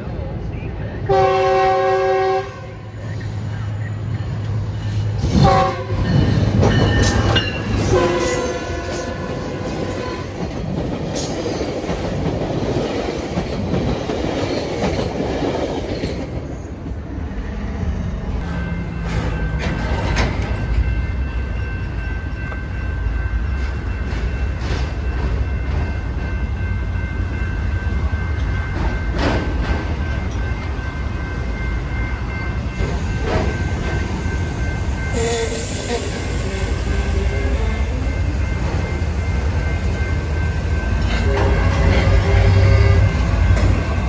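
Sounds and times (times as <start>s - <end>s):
freight train rumbling past: 0.0s - 44.0s.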